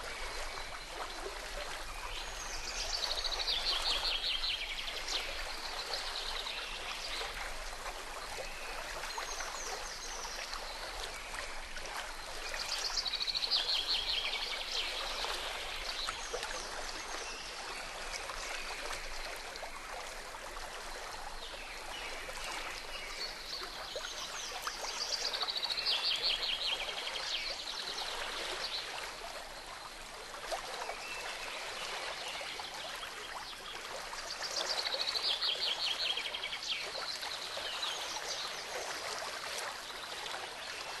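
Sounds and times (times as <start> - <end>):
stream water flowing: 0.0 - 41.0.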